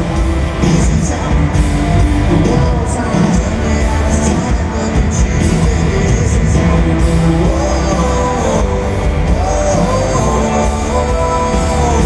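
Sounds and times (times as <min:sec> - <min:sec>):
live country band music: 0:00.0 - 0:12.0.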